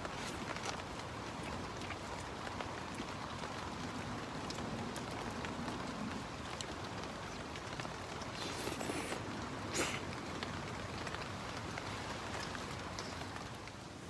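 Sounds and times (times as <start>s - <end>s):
raindrops ticking: 0.0s - 8.4s, 9.2s - 13.9s
steady rain falling: 0.0s - 14.0s.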